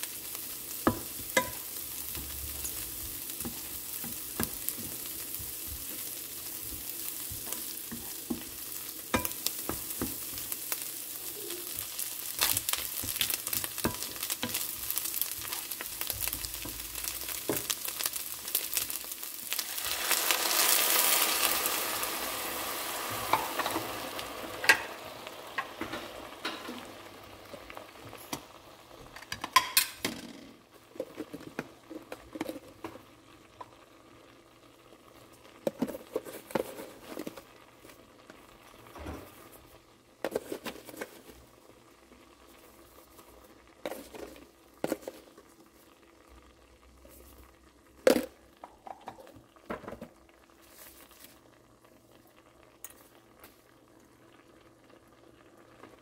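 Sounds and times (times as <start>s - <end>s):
sauce bubbling in a pan: 0.0s - 29.9s, 30.6s - 56.0s.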